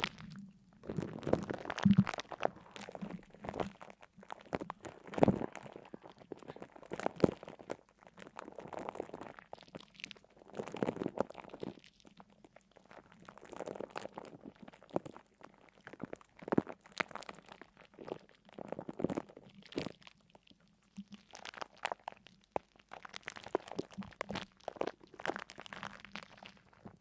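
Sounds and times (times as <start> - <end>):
crunching and crackling: 0.0 - 27.0.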